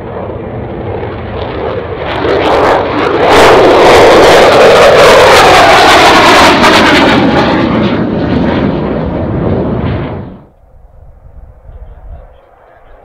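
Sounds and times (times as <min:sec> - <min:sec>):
loud jet engine crackling: 0:00.0 - 0:10.6
faint distant jet: 0:00.0 - 0:13.0.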